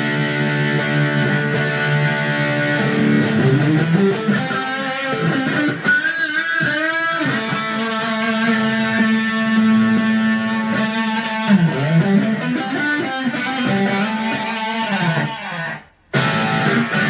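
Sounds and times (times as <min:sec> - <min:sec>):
electric guitar through amplifier: 0:00.0 - 0:17.0.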